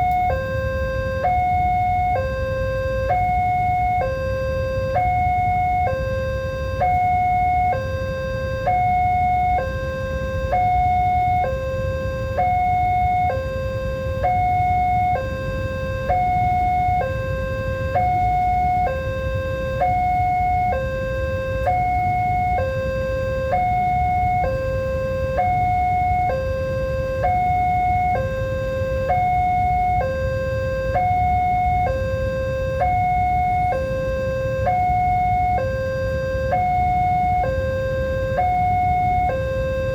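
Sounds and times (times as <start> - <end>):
level crossing two-tone alarm: 0.0 - 39.9
low steady rumble: 0.0 - 39.9.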